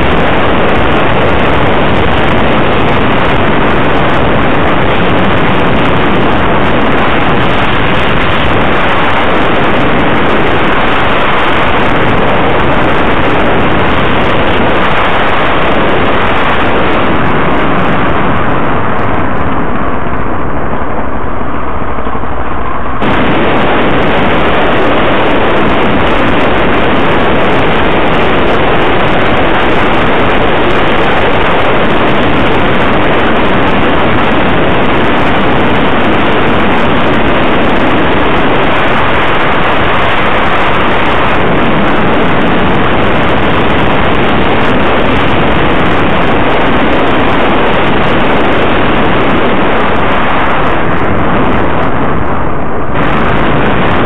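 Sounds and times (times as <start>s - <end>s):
road noise: 0.0s - 54.0s
vehicle engine: 0.0s - 54.0s
wind rush over microphone: 0.0s - 54.0s.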